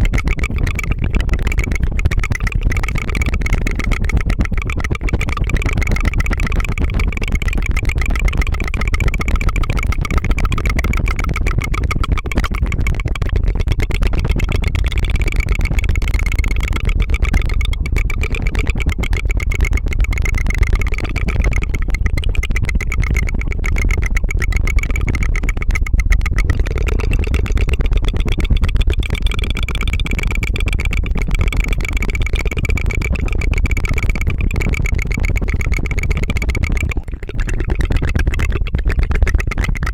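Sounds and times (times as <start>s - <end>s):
tongue fluttering: 0.0s - 39.9s.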